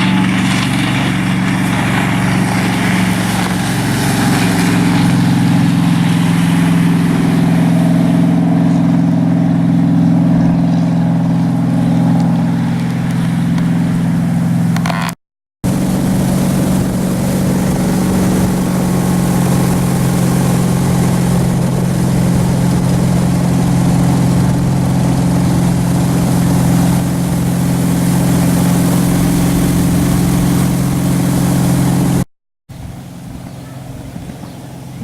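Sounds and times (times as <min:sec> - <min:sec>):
water hissing: 0:00.0 - 0:14.8, 0:15.6 - 0:32.2
boat engine drone: 0:00.0 - 0:35.0.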